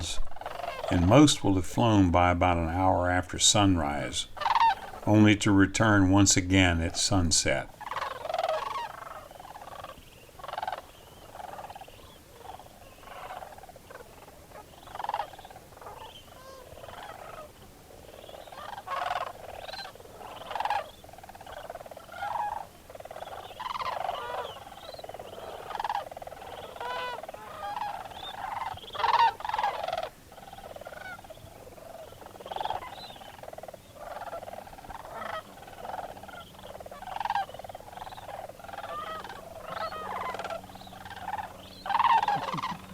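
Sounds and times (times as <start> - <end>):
flock of cranes calling: 0.0 - 42.9.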